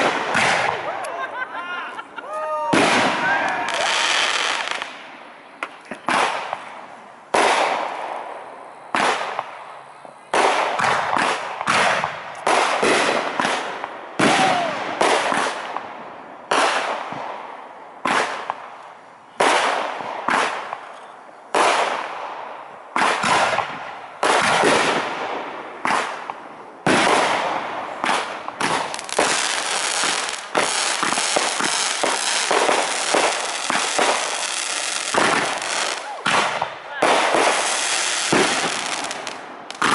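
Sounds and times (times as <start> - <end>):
fireworks bursting with crackles: 0.0 - 1.2, 1.9 - 39.9.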